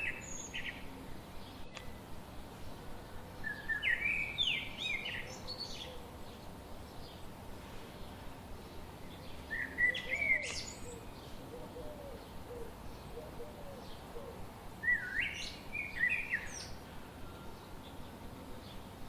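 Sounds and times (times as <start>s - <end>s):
faint low bird calls: 0.0s - 19.0s
songbirds warbling: 0.0s - 19.0s
steady background noise: 0.0s - 19.0s.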